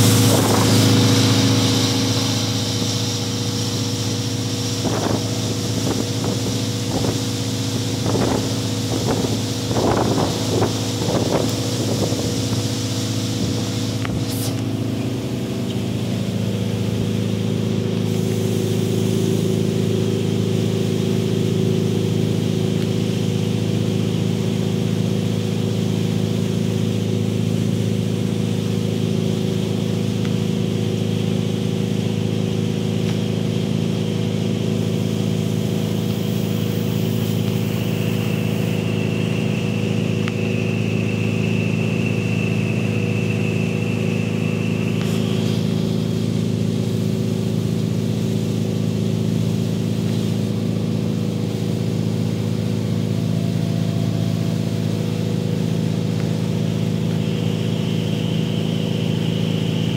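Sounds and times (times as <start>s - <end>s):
outboard motor running: 0.0s - 59.9s.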